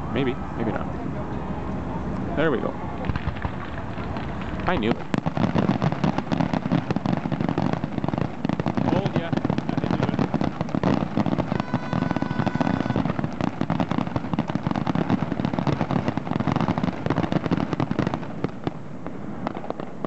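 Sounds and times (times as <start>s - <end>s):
fireworks bursts and pops: 3.0s - 20.0s.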